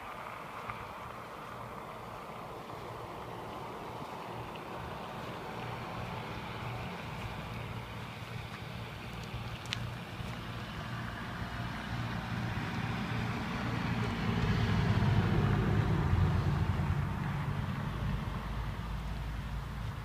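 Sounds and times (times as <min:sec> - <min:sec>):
road traffic rumble: 0:00.0 - 0:20.0
motor vehicle passing: 0:00.2 - 0:20.0.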